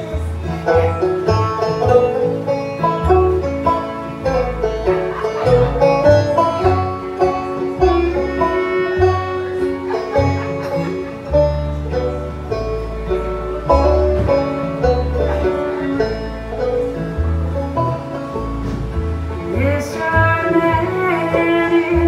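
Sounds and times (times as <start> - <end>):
banjo picking quick runs: 0.0 - 22.0
bluegrass band playing: 0.0 - 22.0.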